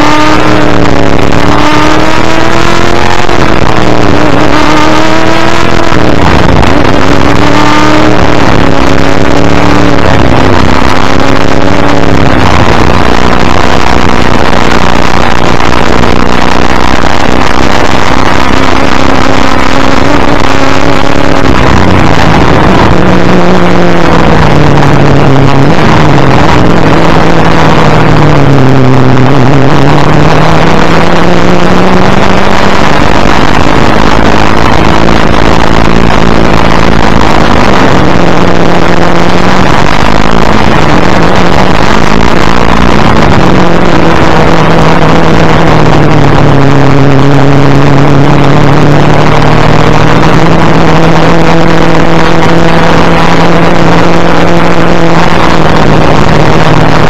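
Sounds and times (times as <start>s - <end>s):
racing car engine running hard: 0.0s - 57.0s.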